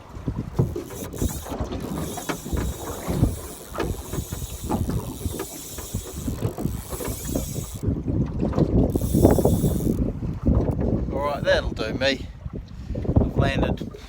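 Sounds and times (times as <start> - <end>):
water lapping against boat hull: 0.0 - 14.0
wind buffeting microphone: 0.0 - 14.0.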